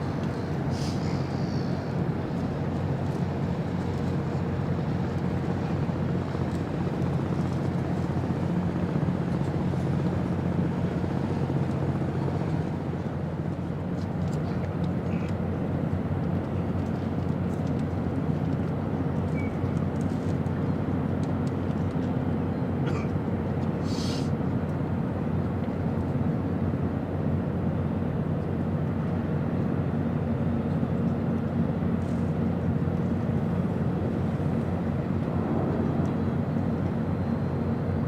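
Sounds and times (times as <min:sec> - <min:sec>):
low engine rumble: 0:00.0 - 0:26.4, 0:28.1 - 0:38.0.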